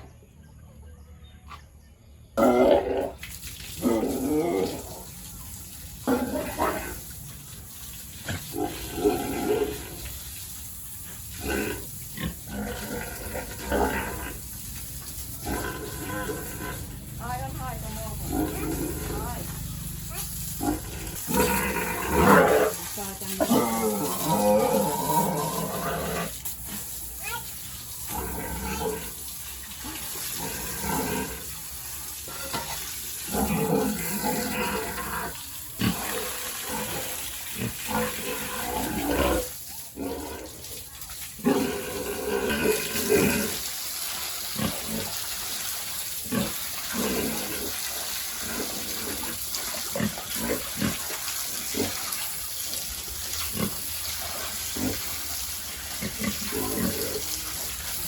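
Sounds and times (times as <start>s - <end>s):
pigs grunting and squealing: 2.4s - 5.2s, 6.0s - 7.2s, 8.2s - 10.2s, 11.0s - 43.7s, 44.4s - 45.4s, 46.1s - 52.5s, 53.4s - 58.0s
running water: 3.0s - 58.0s.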